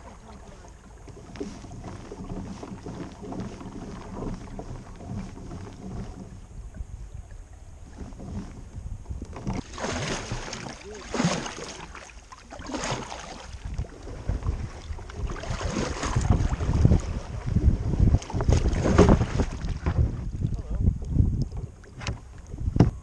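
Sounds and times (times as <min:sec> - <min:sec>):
wind buffeting microphone: 0:00.0 - 0:12.0, 0:12.7 - 0:23.0
water swishes: 0:00.0 - 0:23.0.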